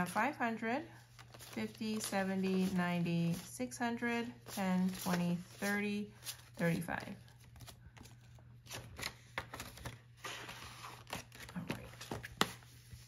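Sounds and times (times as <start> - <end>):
banknotes and plastic rustling: 0.0 - 13.0.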